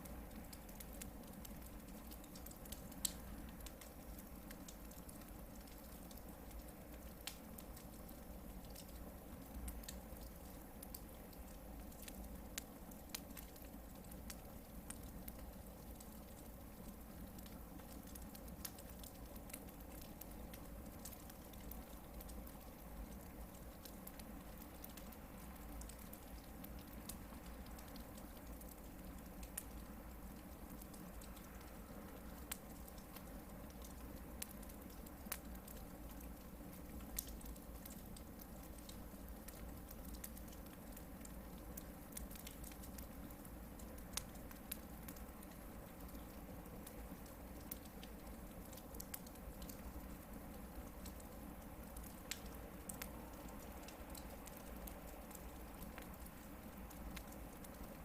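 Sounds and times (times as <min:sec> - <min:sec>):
campfire crackling and popping: 0:00.0 - 0:58.0
faint steady hiss: 0:00.0 - 0:58.0.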